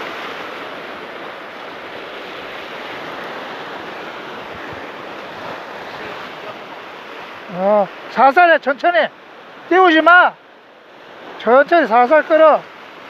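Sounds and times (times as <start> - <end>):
ocean surf breaking over rocks: 0.0 - 13.0.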